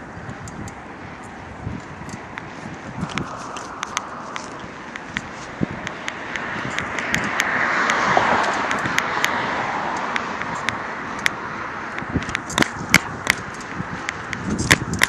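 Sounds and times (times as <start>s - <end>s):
car passing tyre noise: 0.0s - 15.0s.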